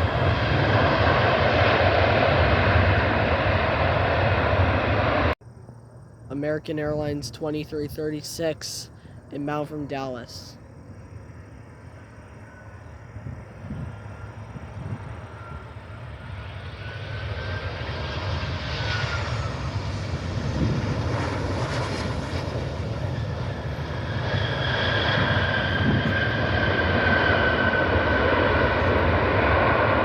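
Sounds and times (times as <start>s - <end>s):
high engine whine: 0.0s - 30.0s
jet airliner engine rumble: 0.0s - 30.0s.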